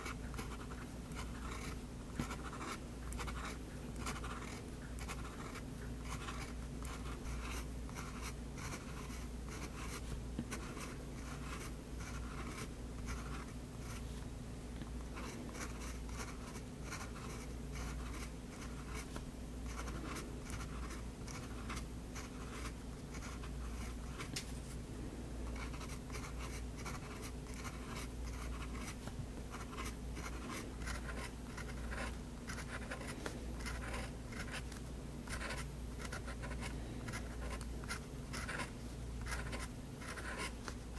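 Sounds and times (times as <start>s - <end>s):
fountain pen scratching on paper: 0.0s - 14.0s, 15.2s - 24.3s, 25.6s - 40.8s.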